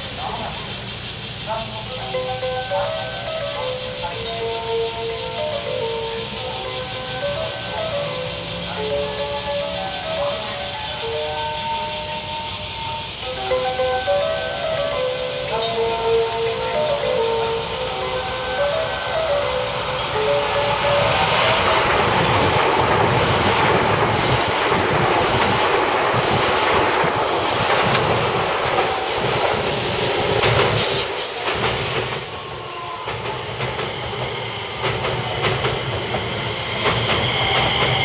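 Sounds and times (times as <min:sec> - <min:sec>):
second electric train passing: 0:00.0 - 0:38.0
train wheels clacking over rail joints: 0:06.7 - 0:38.0.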